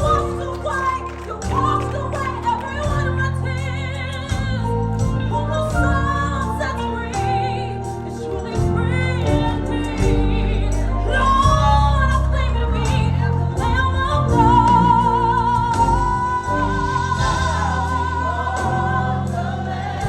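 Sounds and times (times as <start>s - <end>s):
band of keyboard bass and drums: 0.0s - 20.0s
woman singing with vibrato: 0.0s - 20.0s.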